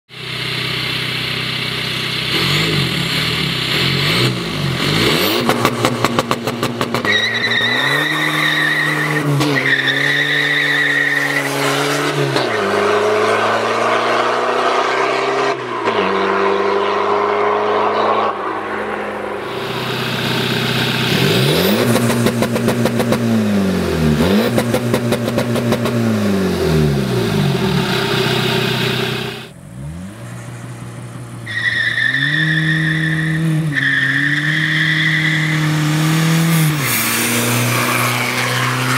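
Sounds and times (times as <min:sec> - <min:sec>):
diesel car engine revving: 0:00.1 - 0:38.9.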